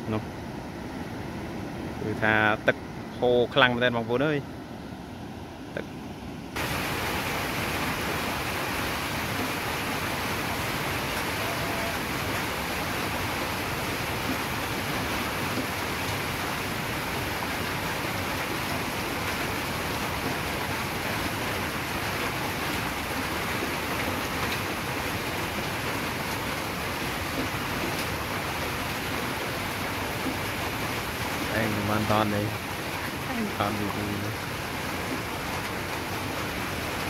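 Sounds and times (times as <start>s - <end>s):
heavy rain on foliage: 6.6s - 37.0s.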